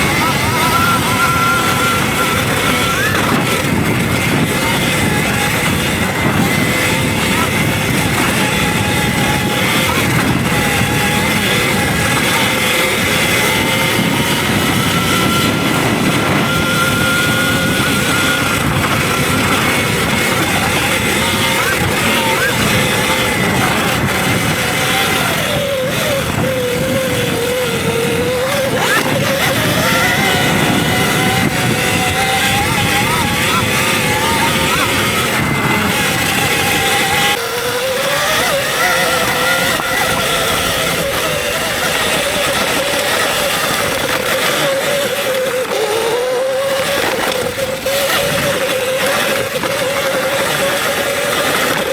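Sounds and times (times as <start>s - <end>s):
electric motor whine: 0.0s - 51.9s
steady rushing noise: 0.0s - 51.9s.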